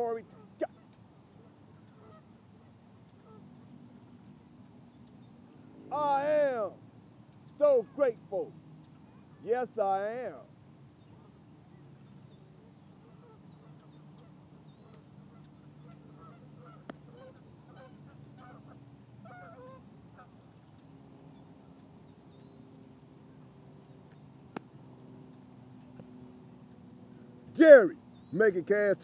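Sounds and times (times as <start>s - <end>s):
distant birds honking: 0.0s - 28.5s.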